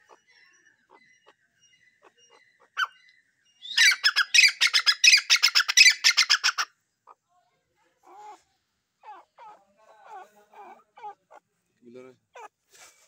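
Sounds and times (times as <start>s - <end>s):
bird calling: 0.0s - 7.2s, 9.0s - 12.6s.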